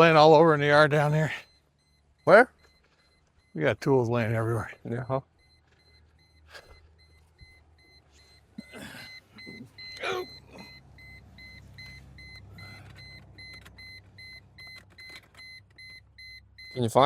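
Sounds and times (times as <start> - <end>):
rapid electronic warning beeps: 0.0 - 17.0.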